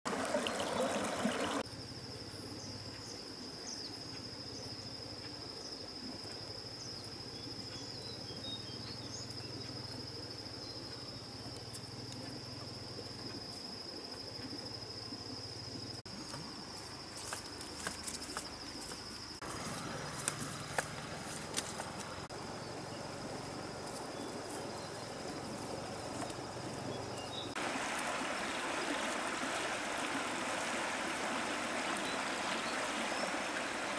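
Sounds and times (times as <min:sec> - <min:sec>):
insects trilling: 0:00.1 - 0:33.9.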